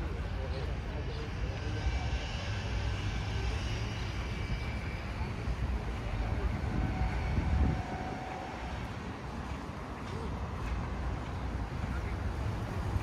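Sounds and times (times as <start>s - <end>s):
faint voices: 0.0s - 13.0s
low street rumble: 0.0s - 13.0s.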